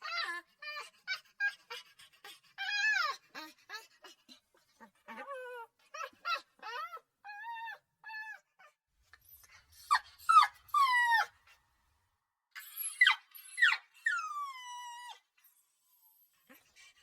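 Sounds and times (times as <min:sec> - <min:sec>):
puppy whimpering and crying: 0:00.0 - 0:11.6, 0:12.6 - 0:16.8.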